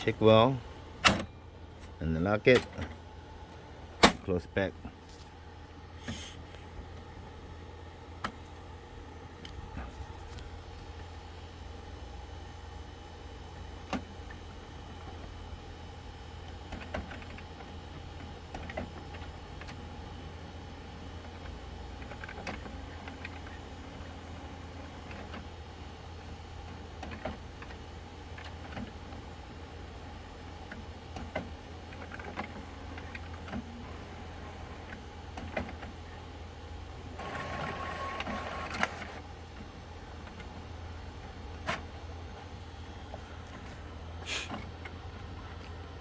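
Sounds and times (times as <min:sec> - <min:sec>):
printer motors humming: 0:00.0 - 0:46.0
printer whirring: 0:00.0 - 0:46.0.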